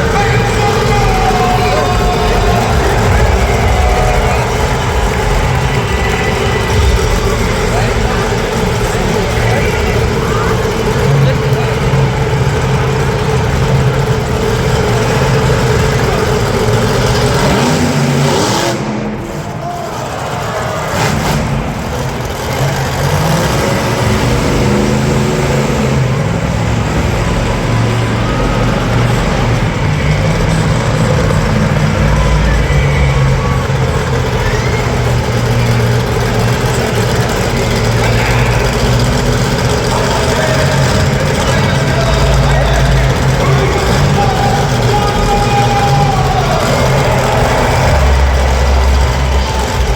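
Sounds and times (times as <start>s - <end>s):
monster truck engine running: 0.0s - 49.9s.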